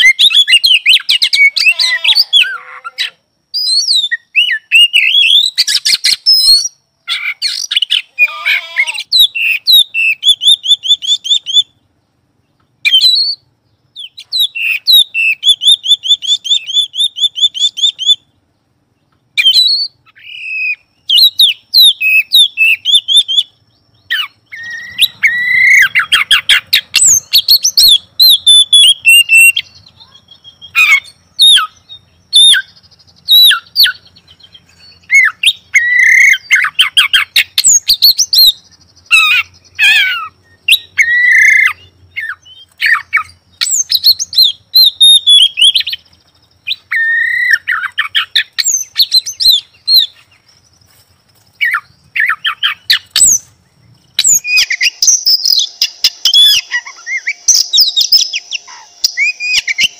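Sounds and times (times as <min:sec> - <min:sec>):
magpie-robin singing loudly: 0:00.0 - 0:11.8, 0:12.8 - 0:18.3, 0:19.4 - 0:50.4, 0:51.6 - 0:53.5, 0:54.2 - 0:59.9.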